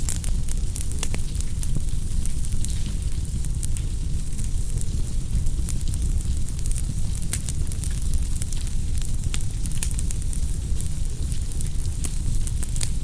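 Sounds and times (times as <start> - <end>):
burning wood crackling and popping: 0.0 - 13.0
low rumble of flames: 0.0 - 13.0.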